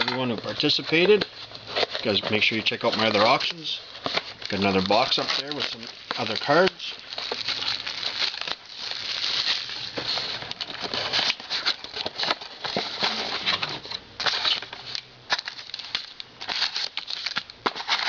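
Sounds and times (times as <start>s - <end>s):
plastic wrap crinkling: 0.0s - 18.0s.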